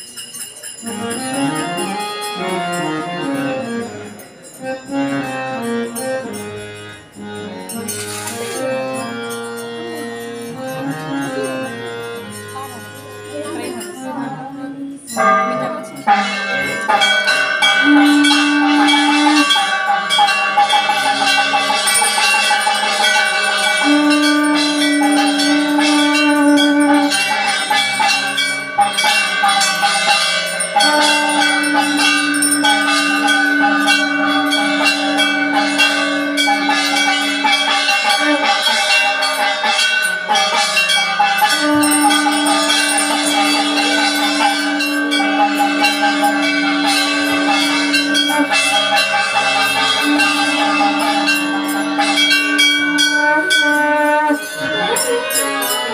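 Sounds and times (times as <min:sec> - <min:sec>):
temple bells ringing: 0:00.0 - 0:55.9.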